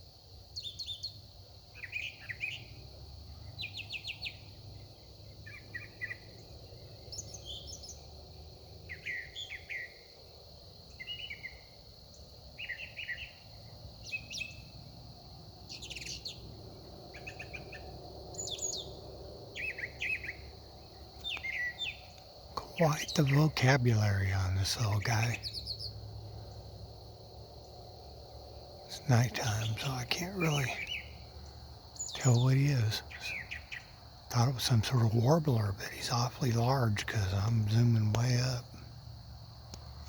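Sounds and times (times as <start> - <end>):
songbird singing varied phrases: 0.6 - 8.1, 8.8 - 10.0, 10.9 - 14.7, 15.7 - 16.5, 17.2 - 26.6, 28.9 - 38.8.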